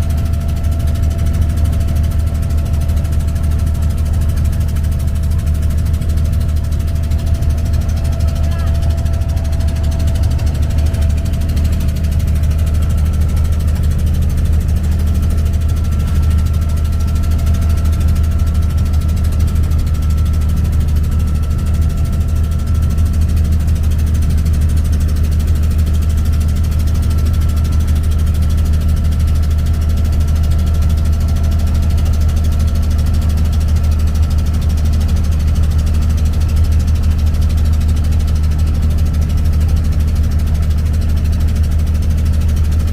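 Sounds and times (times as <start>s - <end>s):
boat diesel engine droning: 0.0s - 42.9s.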